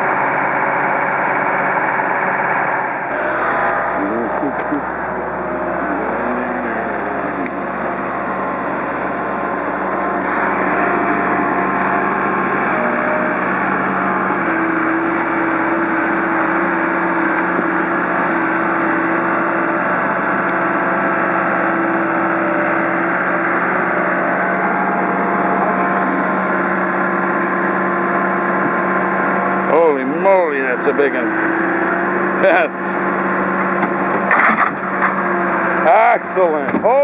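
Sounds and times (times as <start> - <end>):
heavy equipment engine droning: 0.0 - 37.0.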